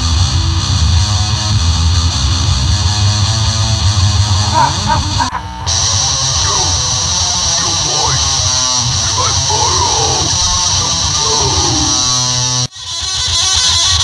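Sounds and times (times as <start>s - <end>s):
rock song with distorted guitar: 0.0s - 12.7s.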